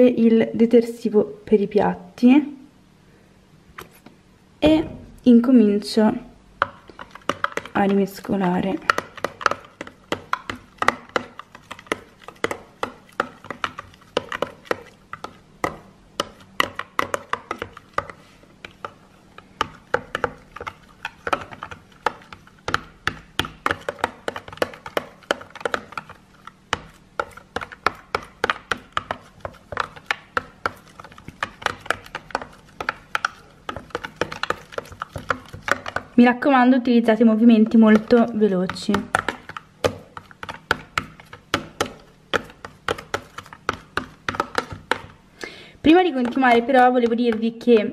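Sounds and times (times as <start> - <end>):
spoon stirring soap in plastic tub: 5.4 - 47.9.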